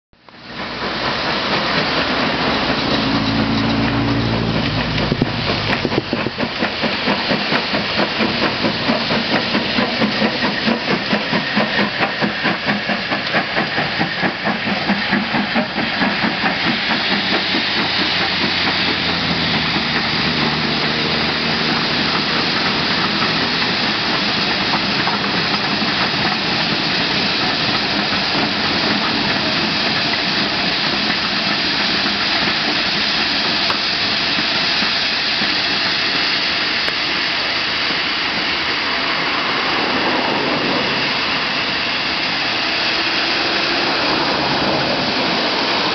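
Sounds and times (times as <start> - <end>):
steam locomotive exhaust beating: 0.2 - 45.9
loud steam hiss: 0.3 - 45.9.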